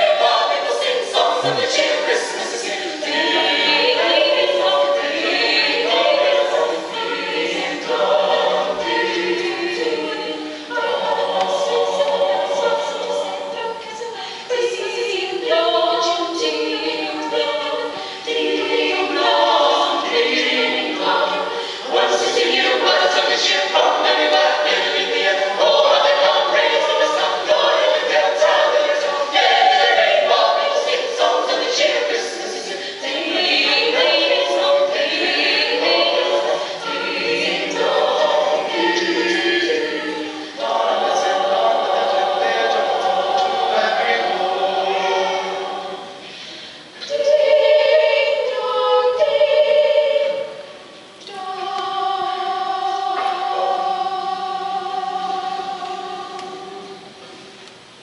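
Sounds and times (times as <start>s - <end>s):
mixed choir singing: 0.0s - 57.6s.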